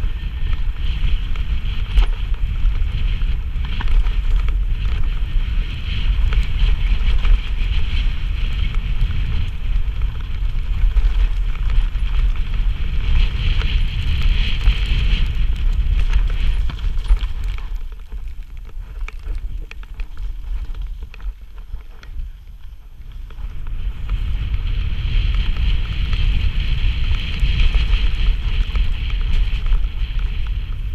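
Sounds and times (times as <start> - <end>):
bike clicks and rattles: 0.0 - 30.9
bike tyres rumbling on dirt: 0.0 - 30.9
wind buffeting microphone: 0.0 - 30.9.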